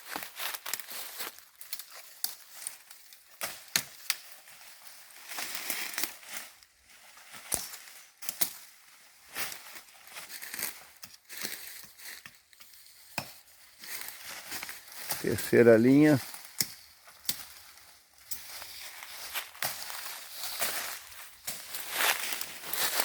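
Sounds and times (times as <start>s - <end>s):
leaves and twigs crackling underfoot: 0.0s - 23.0s.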